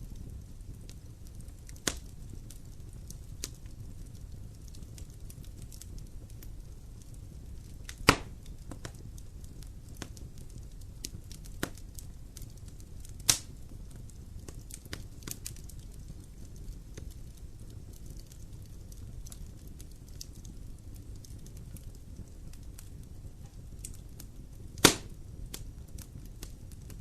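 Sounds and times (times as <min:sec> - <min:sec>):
fire crackling and popping: 0:00.0 - 0:27.0
fireplace flame rumble: 0:00.0 - 0:27.0.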